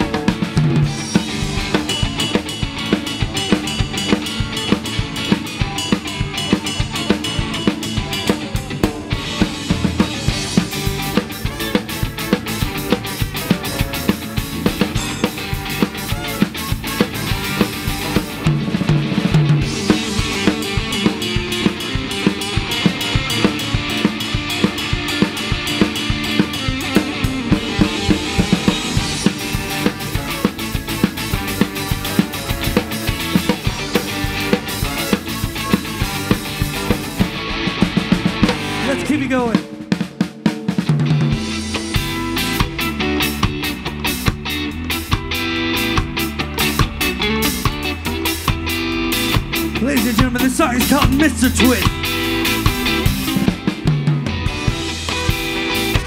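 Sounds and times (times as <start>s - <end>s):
drum kit beat: 0.0s - 56.0s
live ska band playing: 0.0s - 56.0s.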